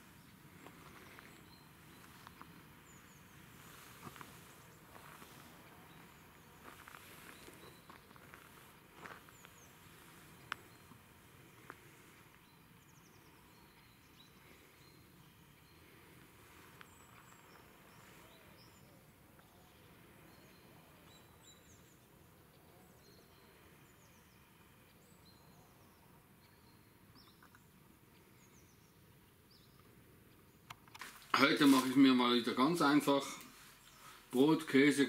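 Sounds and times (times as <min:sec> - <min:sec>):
faint birds chirping: 0:00.0 - 0:35.0.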